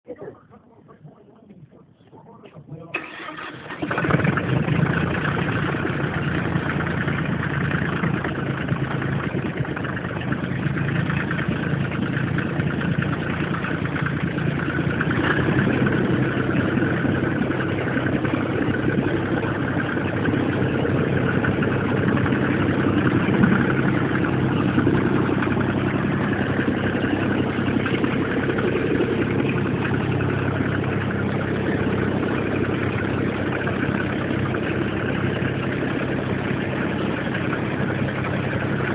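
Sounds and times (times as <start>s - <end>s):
diesel engine idling: 2.2s - 38.9s.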